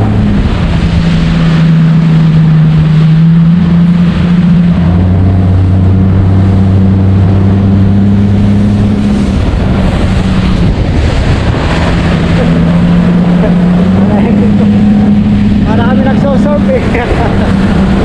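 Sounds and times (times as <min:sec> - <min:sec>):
boat motor humming: 0:00.0 - 0:18.0
water rushing: 0:00.0 - 0:18.0
wind rushing: 0:00.0 - 0:18.0.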